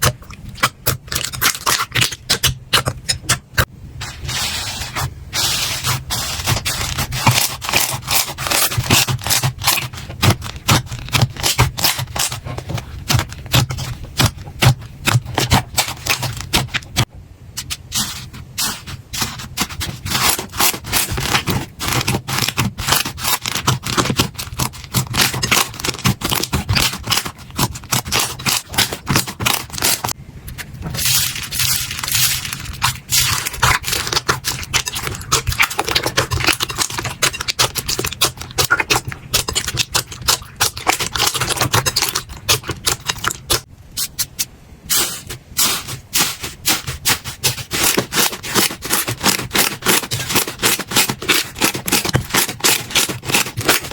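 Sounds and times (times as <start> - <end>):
slime crackling and squelching: 0.0 - 53.9.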